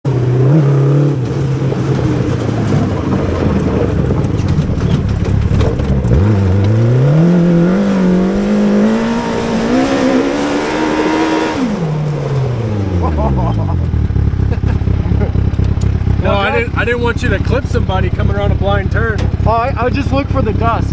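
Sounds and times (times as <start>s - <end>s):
go-kart engine revving: 0.1s - 20.9s.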